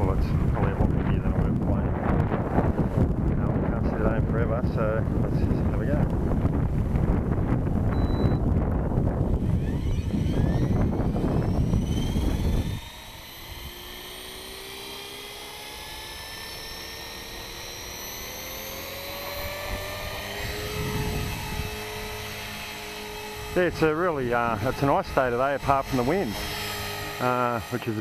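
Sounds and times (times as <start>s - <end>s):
wind buffeting on microphone: 0.0s - 14.2s, 17.9s - 27.2s
rc helicopter rotor whine: 0.0s - 28.0s.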